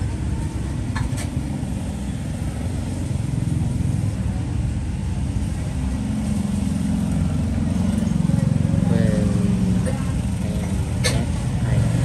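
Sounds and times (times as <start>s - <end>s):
road traffic rumble: 0.0s - 12.0s
vehicle engine: 0.0s - 12.0s.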